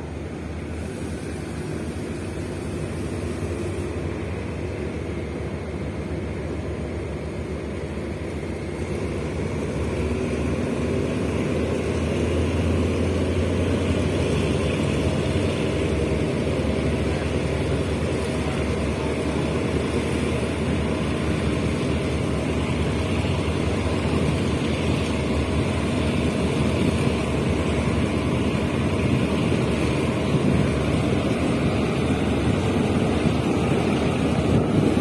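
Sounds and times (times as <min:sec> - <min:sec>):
rushing air: 0:00.0 - 0:05.3, 0:08.0 - 0:35.0
train wheels on rails: 0:00.0 - 0:35.0.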